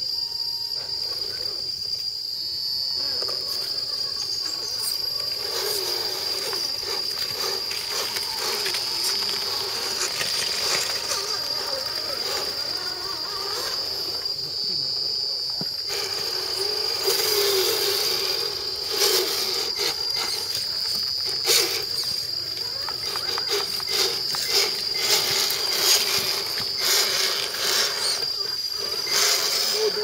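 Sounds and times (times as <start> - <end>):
insects chirring: 0.0 - 30.0
toy cars crackling over leaves: 3.2 - 14.4, 15.7 - 30.0.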